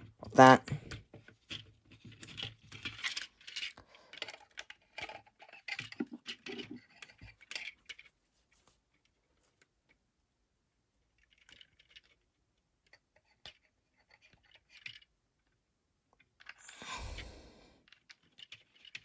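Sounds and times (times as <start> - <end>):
plastic parts clicking and rattling: 0.0 - 8.2, 11.0 - 17.2, 17.8 - 19.0.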